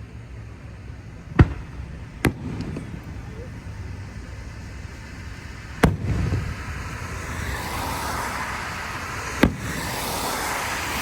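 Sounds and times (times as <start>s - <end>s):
low rumble: 0.0s - 11.0s
steady hiss: 0.0s - 11.0s
fireworks bangs: 0.3s - 11.0s.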